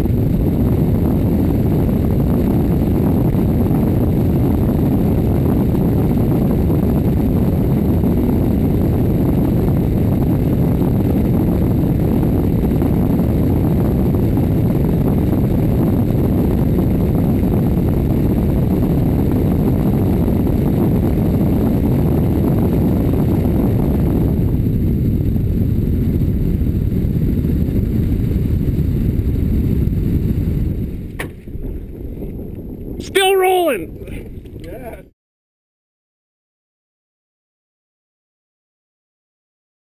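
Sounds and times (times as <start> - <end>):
small plane engine drone: 0.0 - 32.0.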